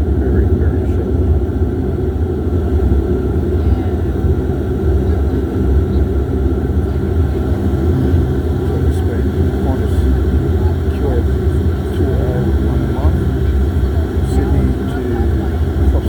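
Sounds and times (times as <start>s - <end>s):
turboprop engines droning: 0.0s - 16.0s.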